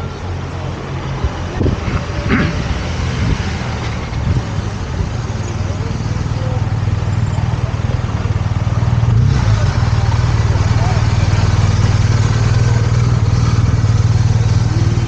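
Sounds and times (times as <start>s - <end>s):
street traffic: 0.0s - 15.0s
vehicle engine rumbling: 0.0s - 15.0s.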